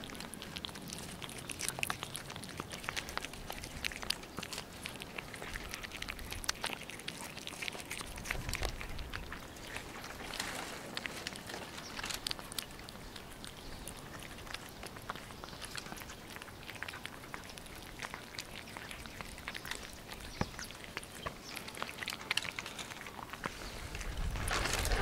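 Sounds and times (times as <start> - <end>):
cats chewing and smacking: 0.0 - 25.0.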